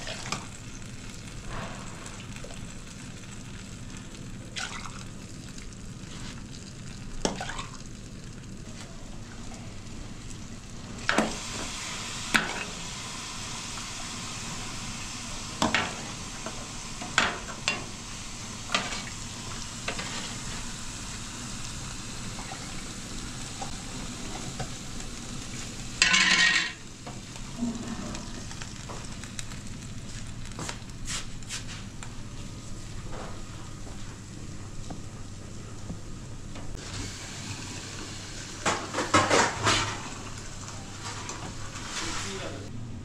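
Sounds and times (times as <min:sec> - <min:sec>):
food frying sizzling: 0:00.0 - 0:42.7.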